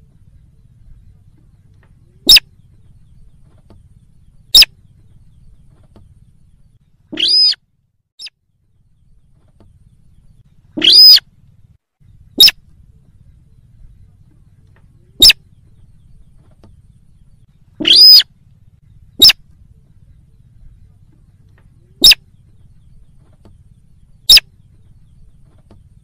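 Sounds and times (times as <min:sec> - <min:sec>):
rail bird calling: 0:00.0 - 0:07.6, 0:08.2 - 0:26.0.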